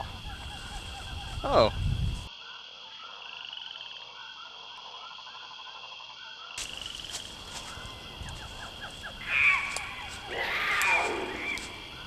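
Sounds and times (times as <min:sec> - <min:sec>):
frogs calling: 0:00.0 - 0:12.0
high insect trill: 0:00.0 - 0:12.0.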